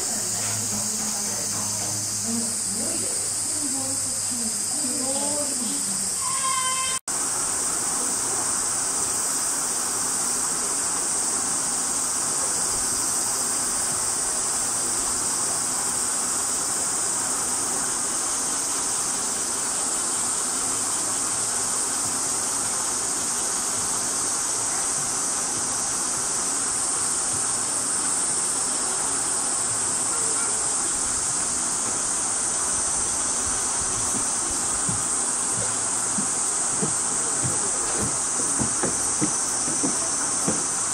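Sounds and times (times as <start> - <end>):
insects buzzing: 0.0 - 40.9
low background hiss: 0.0 - 40.9.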